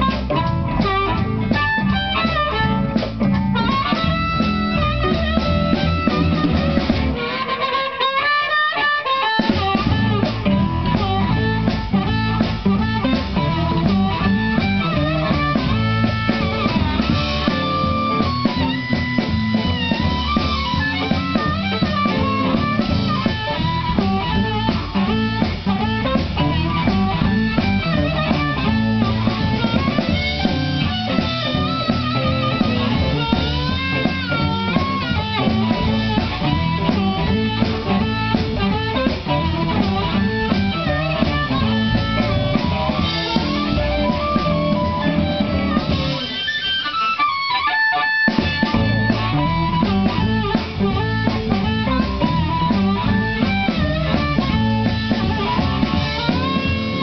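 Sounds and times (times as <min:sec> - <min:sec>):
drum kit beat: 0:00.0 - 0:57.0
electric guitars: 0:00.0 - 0:57.0
harmonica bending notes: 0:00.0 - 0:57.0.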